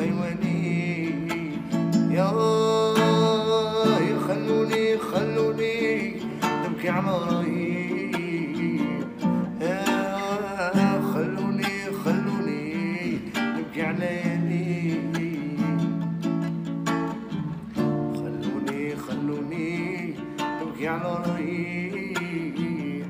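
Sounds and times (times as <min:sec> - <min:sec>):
man singing: 0:00.0 - 0:23.0
strummed acoustic guitar: 0:00.0 - 0:23.0.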